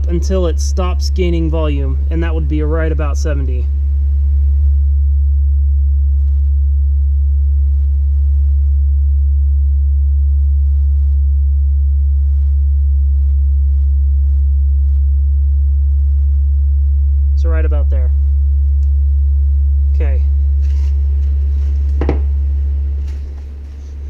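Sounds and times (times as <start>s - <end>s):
low test tone through subwoofer: 0.0s - 24.0s.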